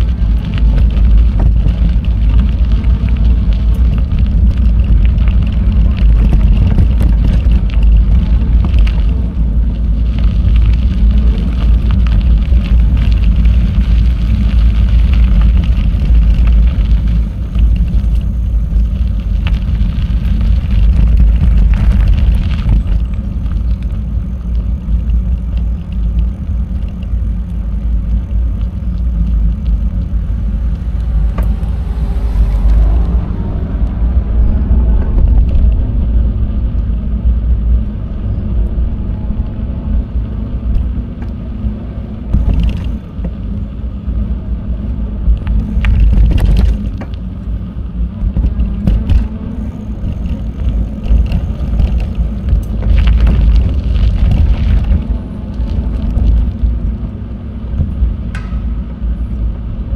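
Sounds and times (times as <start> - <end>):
bicycle clicks and knocks: 0.0 - 33.2, 42.3 - 43.6, 45.2 - 59.2
tyre and road noise: 0.0 - 59.9
wind buffeting microphone: 0.0 - 59.9.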